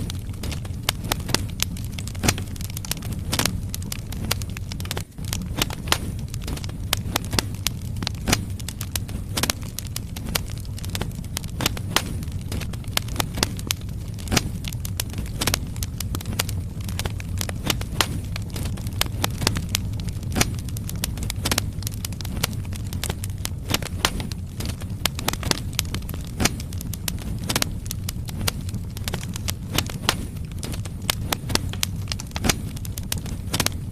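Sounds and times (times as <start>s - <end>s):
firewood crackling and popping: 0.0s - 33.9s
steady low rumble: 0.0s - 33.9s.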